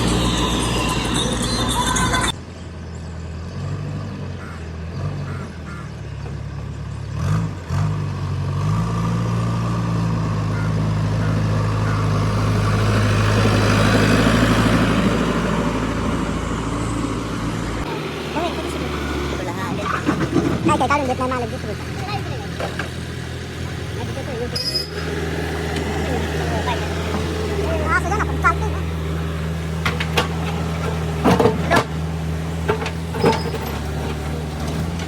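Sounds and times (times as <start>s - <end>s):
diesel machinery engine running: 0.0s - 35.0s.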